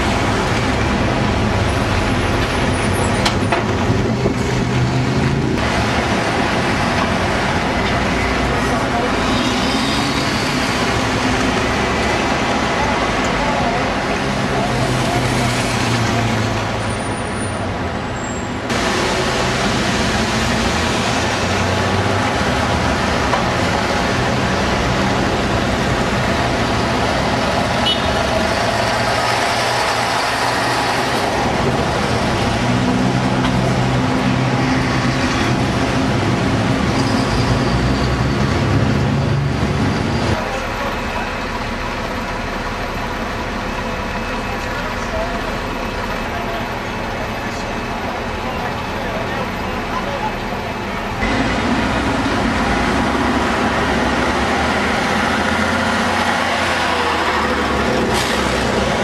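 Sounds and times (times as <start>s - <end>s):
bus diesel engines: 0.0s - 59.0s
bus engine passing close: 0.0s - 59.0s
street traffic: 0.0s - 59.0s.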